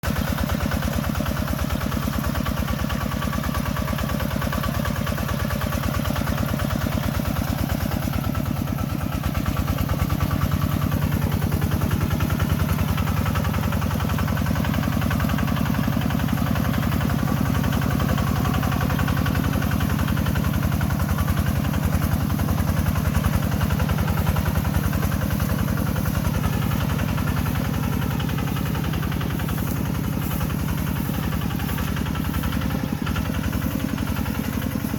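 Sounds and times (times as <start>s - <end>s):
tractor engine chugging: 0.0s - 34.9s.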